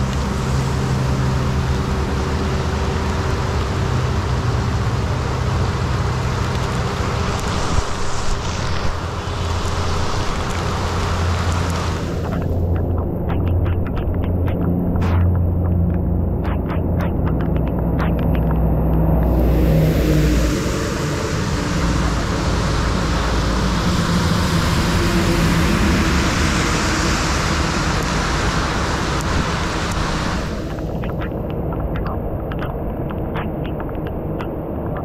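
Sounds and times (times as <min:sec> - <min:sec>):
heavy rain pouring: 0:00.0 - 0:35.0
steady low rumble: 0:00.0 - 0:35.0.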